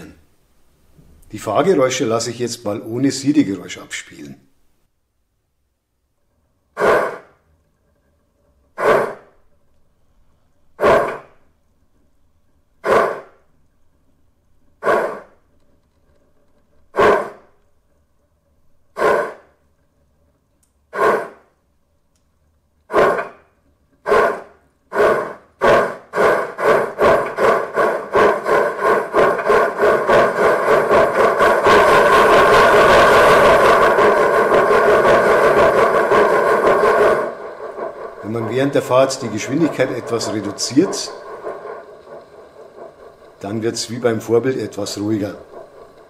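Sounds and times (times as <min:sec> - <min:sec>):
steam locomotive exhaust chuffs: 0:06.2 - 0:21.7, 0:22.8 - 0:46.0.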